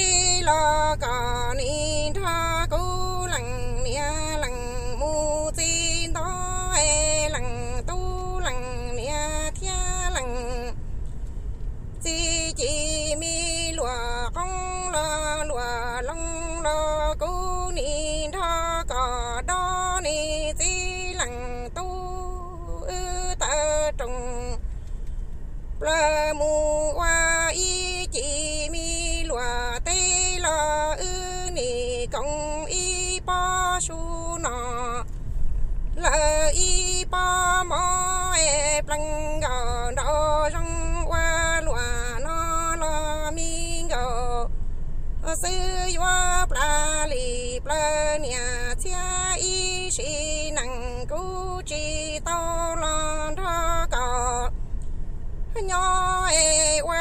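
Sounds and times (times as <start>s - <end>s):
woman singing with vibrato: 0.0s - 10.8s, 12.0s - 24.6s, 25.8s - 35.0s, 36.0s - 44.5s, 45.2s - 54.5s, 55.5s - 57.0s.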